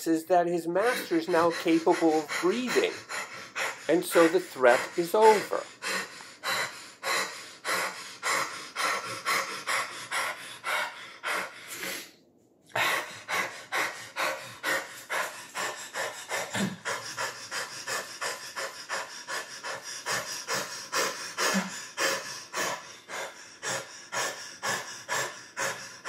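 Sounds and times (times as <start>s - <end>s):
man panting hard: 0.0s - 12.1s, 12.7s - 26.0s.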